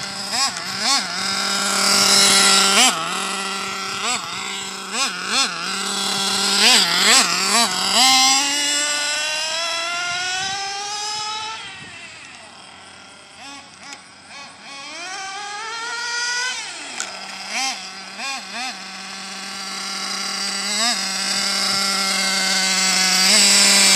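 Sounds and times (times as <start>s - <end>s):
rc car engine revving: 0.0s - 23.9s.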